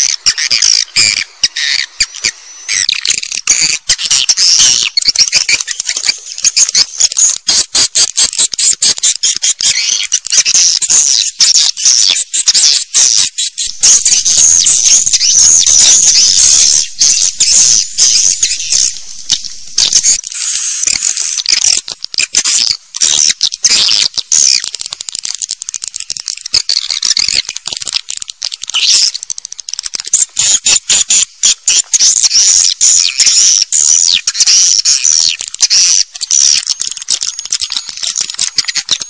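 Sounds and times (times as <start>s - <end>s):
swiftlets twittering and clicking: 0.0s - 39.0s.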